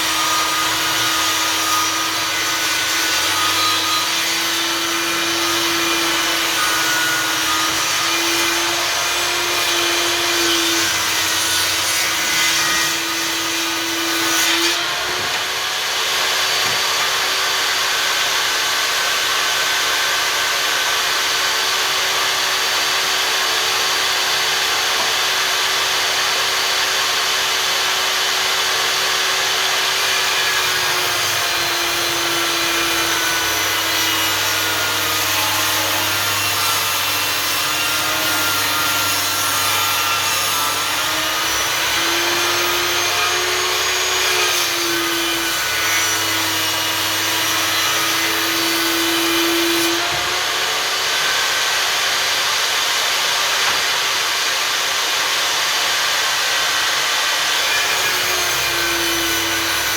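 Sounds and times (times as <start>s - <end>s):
table saw cutting wood: 0.0s - 59.9s.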